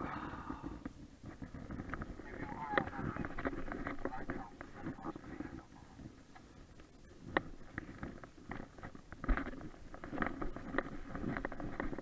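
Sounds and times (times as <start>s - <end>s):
low uneven noise: 0.0s - 12.0s.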